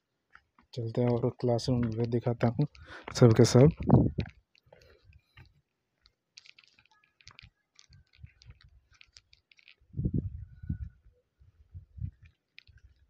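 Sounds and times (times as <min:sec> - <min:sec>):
footsteps on paving: 0:00.2 - 0:10.4, 0:11.7 - 0:13.0.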